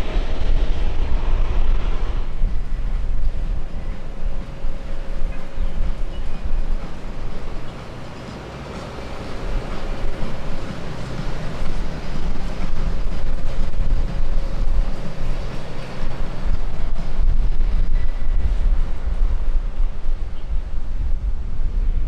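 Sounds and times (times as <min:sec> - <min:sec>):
jet airliner passing: 0:00.0 - 0:22.0
wind buffeting microphone: 0:00.0 - 0:22.0.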